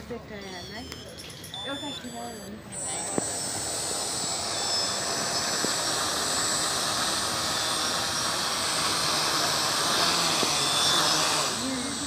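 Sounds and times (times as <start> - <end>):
quadcopter propellers whirring: 0.7 - 12.0.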